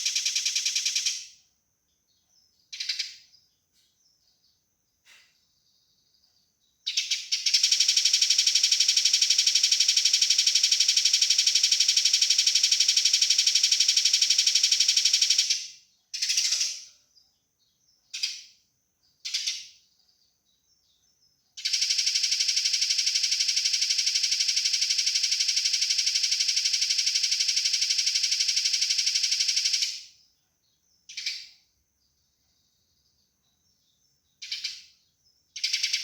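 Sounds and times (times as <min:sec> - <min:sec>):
sparrow rattling trill: 0:00.0 - 0:01.4, 0:02.1 - 0:04.4, 0:05.0 - 0:36.0.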